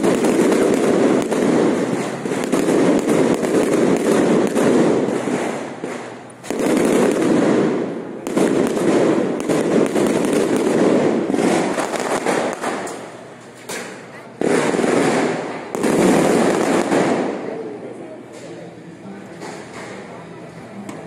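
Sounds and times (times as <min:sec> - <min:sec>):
firecrackers crackling: 0:00.0 - 0:21.0.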